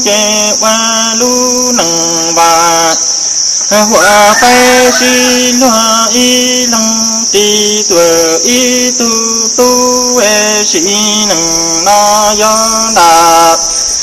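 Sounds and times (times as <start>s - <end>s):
high-pitched insect drone: 0.0s - 14.0s
man singing long notes: 0.0s - 14.0s.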